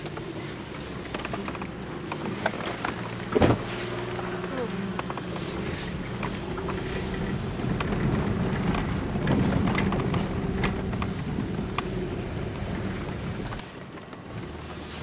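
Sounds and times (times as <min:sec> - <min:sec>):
car engine hum: 0:00.0 - 0:15.0
tyres crunching over ground: 0:00.0 - 0:15.0.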